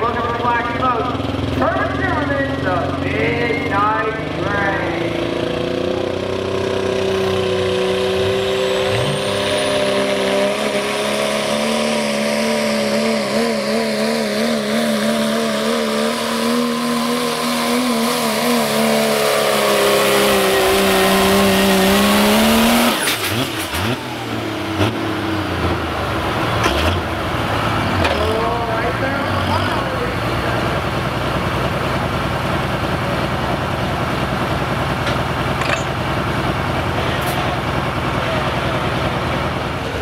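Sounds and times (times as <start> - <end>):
diesel truck engine at full throttle: 0.0 - 40.0.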